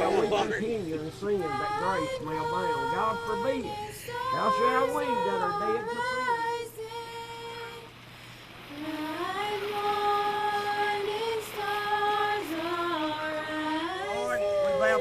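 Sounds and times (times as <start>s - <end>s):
person singing slow melody: 0.0s - 15.0s.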